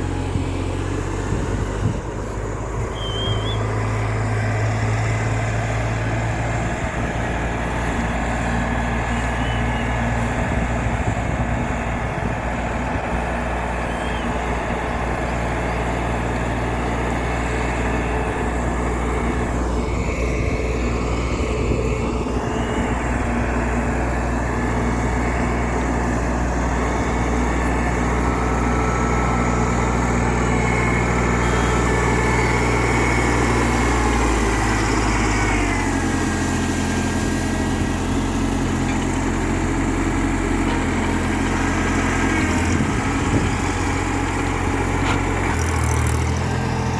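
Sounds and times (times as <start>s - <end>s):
backhoe loader engine running: 0.0s - 46.9s.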